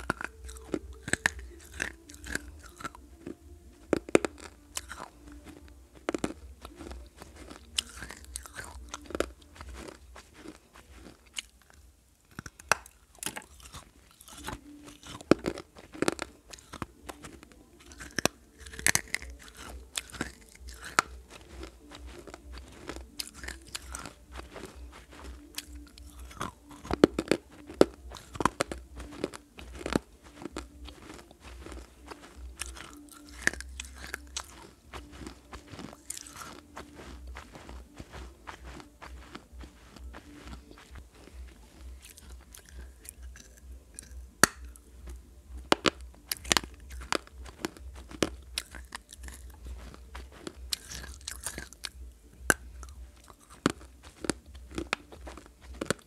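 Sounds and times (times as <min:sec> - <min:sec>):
clay being chewed: 0:00.0 - 0:56.0.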